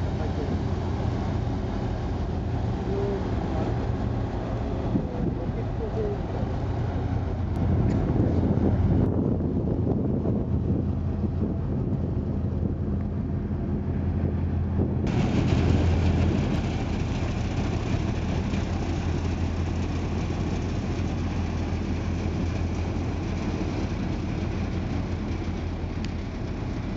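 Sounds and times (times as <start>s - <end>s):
ship diesel engines droning: 0.0s - 26.9s.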